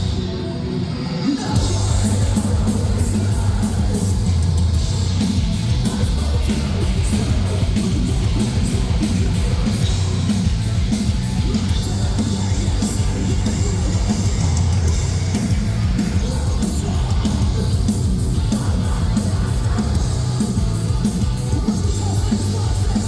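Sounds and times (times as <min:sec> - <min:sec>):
band vocals: 0:00.0 - 0:23.0
distorted guitars and bass: 0:00.0 - 0:23.0
pounding drums and cymbals: 0:00.0 - 0:23.0.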